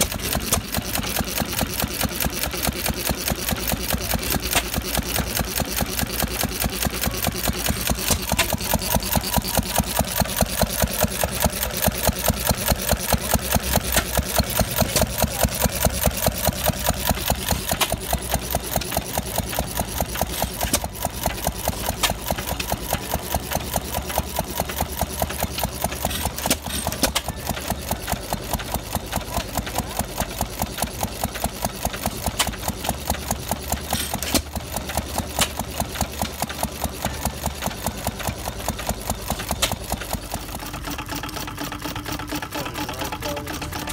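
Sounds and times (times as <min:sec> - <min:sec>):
stationary engine clattering: 0:00.0 - 0:43.9.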